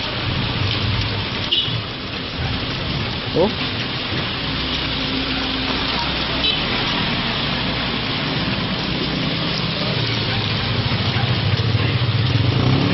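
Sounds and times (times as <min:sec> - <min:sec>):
vehicle engine: 0:00.0 - 0:12.9.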